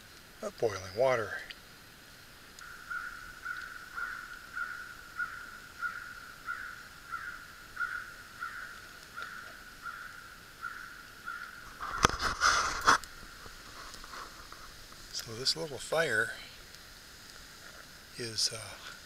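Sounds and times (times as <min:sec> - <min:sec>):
water gurgling at a rolling boil: 0:00.0 - 0:19.0.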